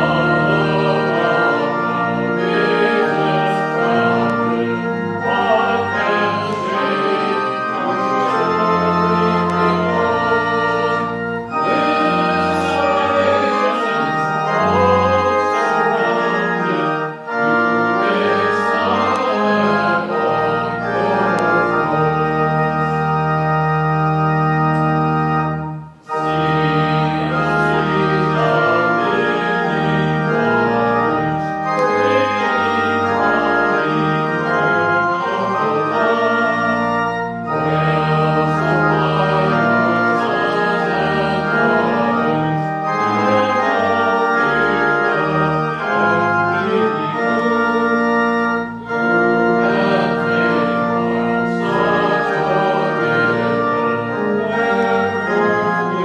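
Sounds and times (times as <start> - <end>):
organ playing full chords: 0.0 - 56.0.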